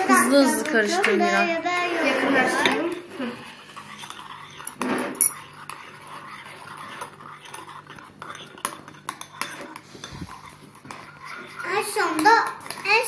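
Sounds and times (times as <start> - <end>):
spoon stirring slime: 0.0 - 13.0.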